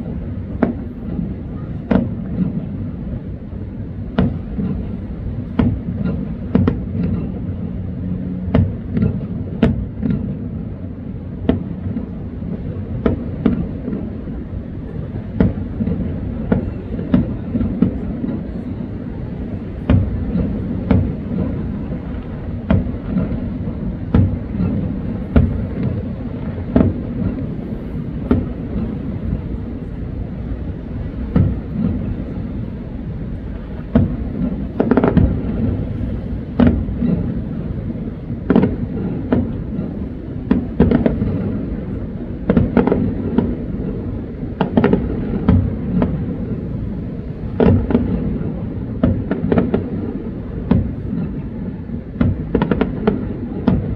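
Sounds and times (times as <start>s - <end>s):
continuous low rumble: 0.0s - 53.9s
fireworks booms and cracks: 0.0s - 53.9s.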